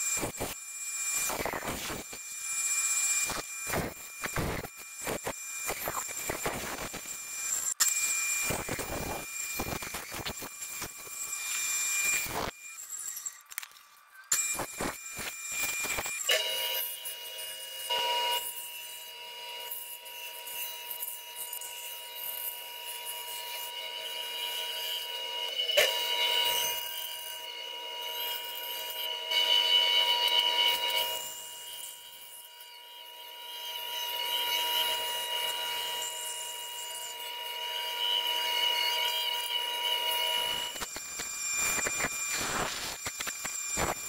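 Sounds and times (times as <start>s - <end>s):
bandsaw motor whine: 0.0s - 44.0s.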